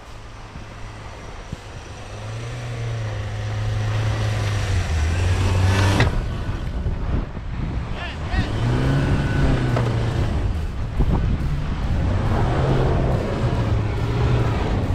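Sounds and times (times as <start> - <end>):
pickup engine pulling through snow: 0.0 - 14.9.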